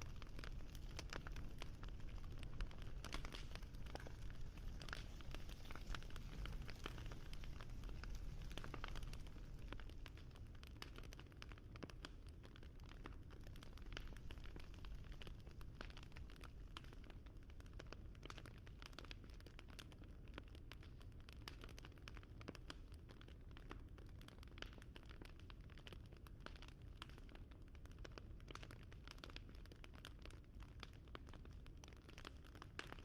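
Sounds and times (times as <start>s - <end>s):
crackling fire: 0.0s - 33.0s.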